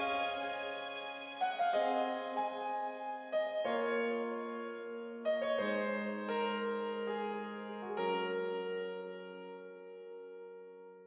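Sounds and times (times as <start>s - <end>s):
slow sad keyboard music: 0.0s - 11.0s.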